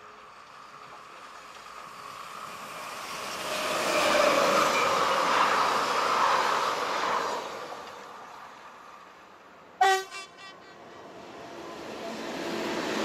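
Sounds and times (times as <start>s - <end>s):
train wheels rumbling on track: 0.0s - 9.1s, 10.0s - 13.0s.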